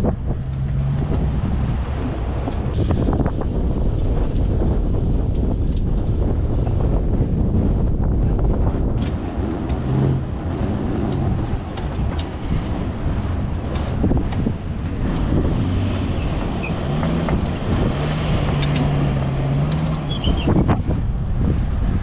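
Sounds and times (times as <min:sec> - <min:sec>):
vehicle engine: 0:00.0 - 0:22.0
wind buffeting microphone: 0:00.0 - 0:22.0.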